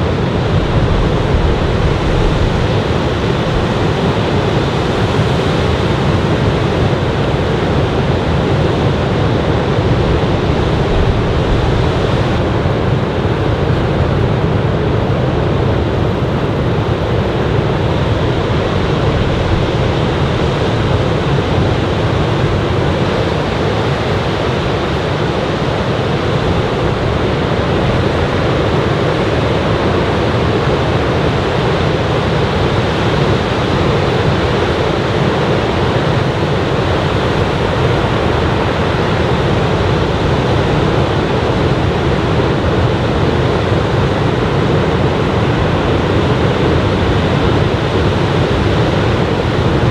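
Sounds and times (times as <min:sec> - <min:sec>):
heavy surf breaking on beach: 0:00.0 - 0:49.9.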